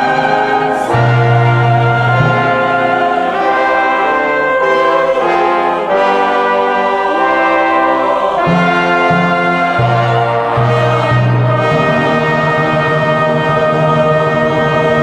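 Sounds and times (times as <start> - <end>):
orchestral brass music: 0.0 - 15.0.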